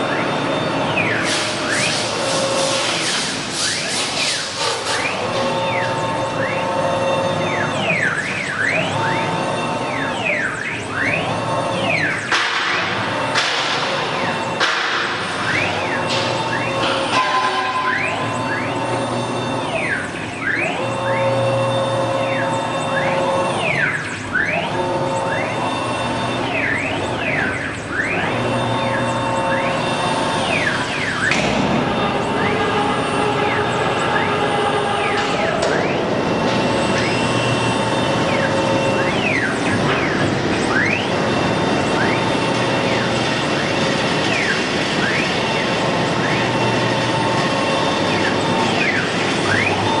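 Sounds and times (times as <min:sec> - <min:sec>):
router drive motors whining: 0:00.0 - 0:50.0.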